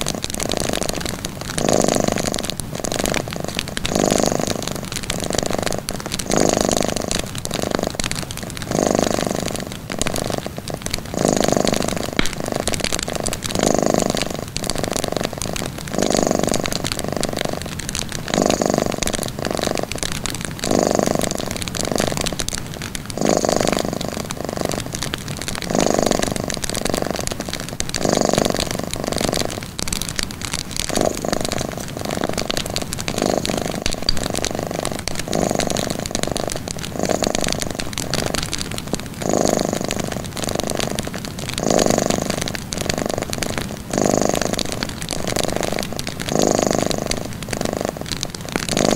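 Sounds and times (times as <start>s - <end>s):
cat purring: 0.0s - 48.9s
fire crackling: 0.0s - 48.9s.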